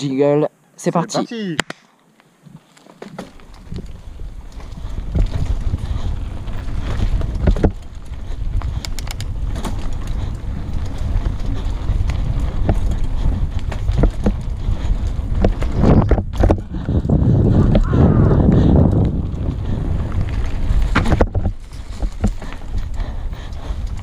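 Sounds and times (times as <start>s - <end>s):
mountain bike rattling on rough trail: 2.6s - 24.0s
wind buffeting microphone: 3.4s - 24.0s.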